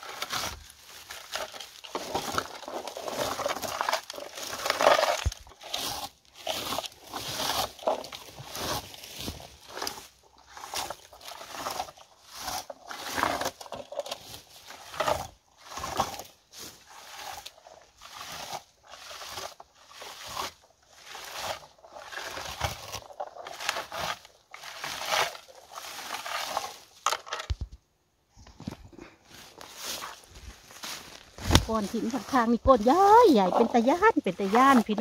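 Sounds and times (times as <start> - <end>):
scoop raking through bushes: 0.0 - 27.0, 29.2 - 35.0.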